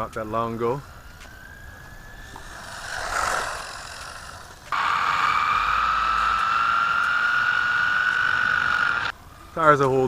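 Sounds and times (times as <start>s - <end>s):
high motor whine: 0.0s - 9.6s
rc car motor whooshing: 0.8s - 9.2s.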